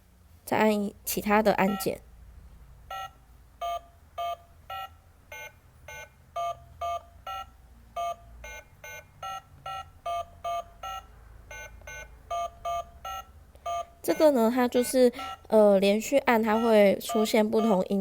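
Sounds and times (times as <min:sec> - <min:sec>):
toy telephone electronic beeps: 0:01.7 - 0:02.0, 0:02.9 - 0:18.0.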